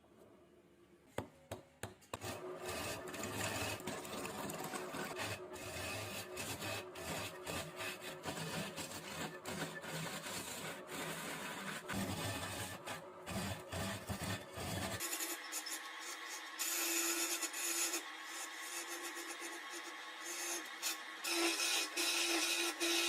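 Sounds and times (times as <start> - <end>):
chisel scraping spinning wood: 2.2 - 23.0
lathe humming: 2.2 - 23.0.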